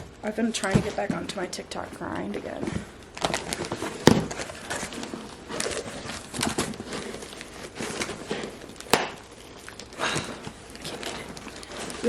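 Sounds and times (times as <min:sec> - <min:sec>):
hands handling packages: 0:02.1 - 0:12.0.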